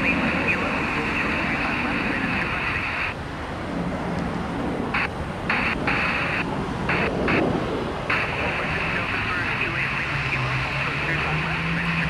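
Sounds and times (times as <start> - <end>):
air traffic control radio: 0.0 - 3.3, 4.8 - 12.0
low rumble of airport noise: 0.0 - 12.0.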